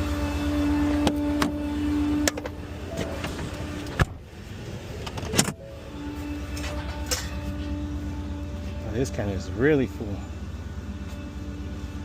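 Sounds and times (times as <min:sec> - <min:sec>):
garbage truck whine: 0:00.0 - 0:12.0.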